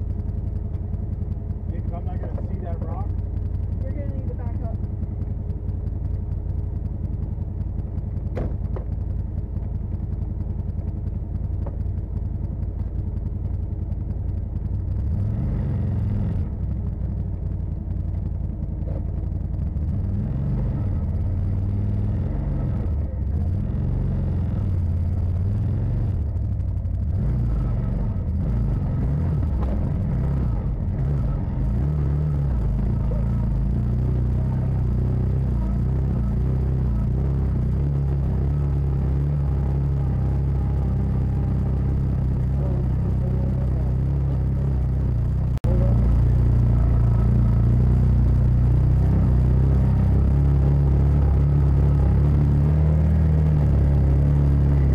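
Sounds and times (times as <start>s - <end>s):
vehicle engine idling and revving: 0.0s - 54.9s.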